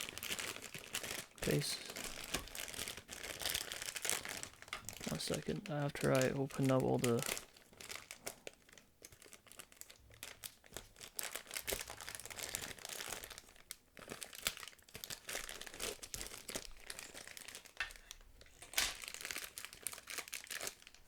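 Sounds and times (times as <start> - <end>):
packaging crinkling: 0.0 - 21.0.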